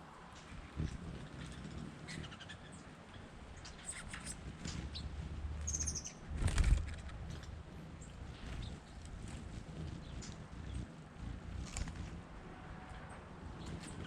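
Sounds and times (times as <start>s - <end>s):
wings fluttering: 0.3s - 14.0s
small birds chirping: 0.4s - 12.2s, 13.5s - 14.0s.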